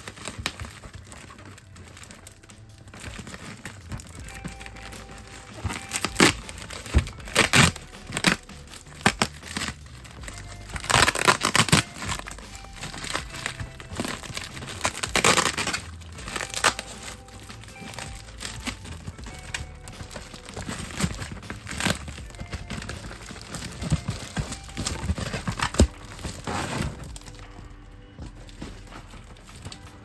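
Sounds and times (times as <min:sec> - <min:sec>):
packaging crinkling and tearing: 0:00.0 - 0:30.0.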